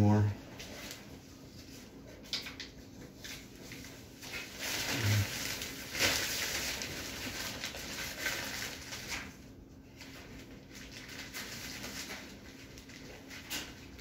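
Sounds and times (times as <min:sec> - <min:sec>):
plastic sheeting rustling: 0:00.4 - 0:14.0.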